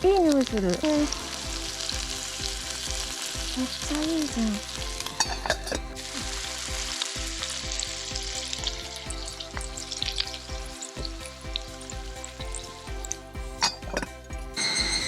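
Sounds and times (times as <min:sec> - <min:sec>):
meat sizzling over fire: 0:00.1 - 0:13.9.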